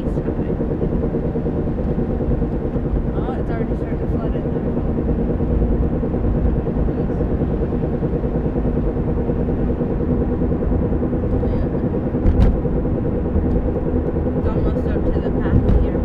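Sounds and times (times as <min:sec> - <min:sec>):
car engine droning: 0:00.0 - 0:16.0
constant low hum: 0:00.0 - 0:16.0.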